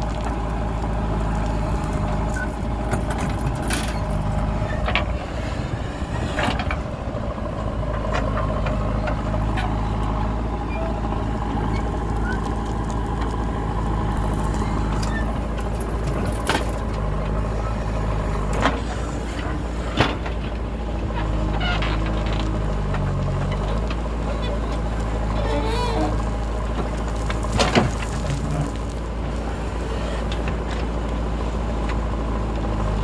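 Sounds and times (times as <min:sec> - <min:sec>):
backhoe digging earth: 0:00.0 - 0:33.0
diesel engine under load: 0:00.0 - 0:33.0.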